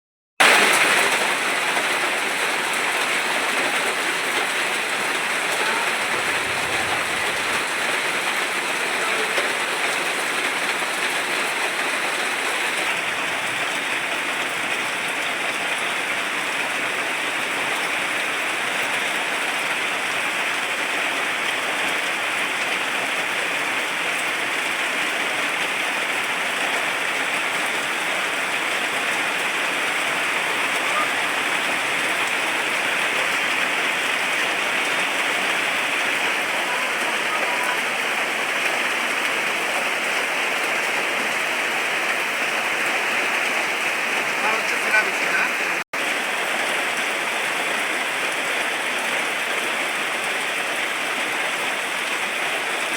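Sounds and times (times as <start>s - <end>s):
steady rainfall: 0.4s - 52.9s.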